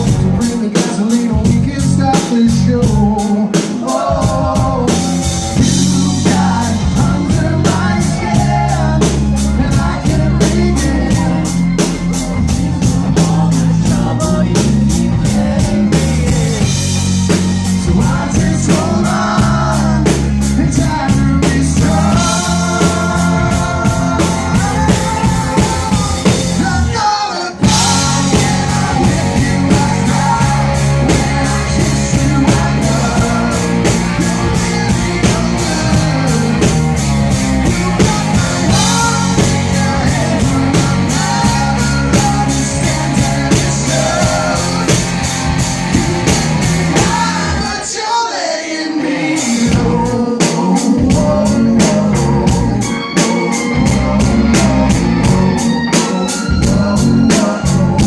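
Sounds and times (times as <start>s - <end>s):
person singing: 0.0s - 45.6s, 46.2s - 58.0s
drums: 0.0s - 58.0s
guitar: 0.0s - 58.0s
live rock band playing: 0.0s - 58.0s.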